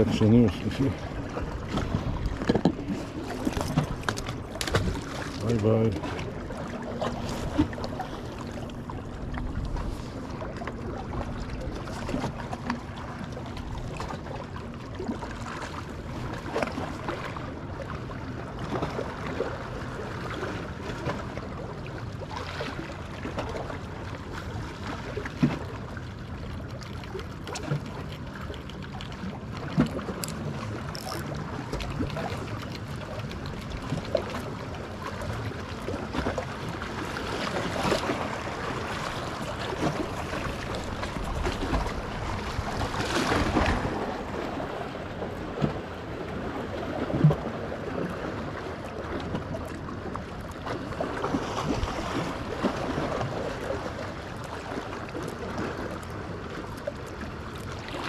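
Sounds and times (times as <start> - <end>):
waves lapping against rocks: 0.0 - 58.0.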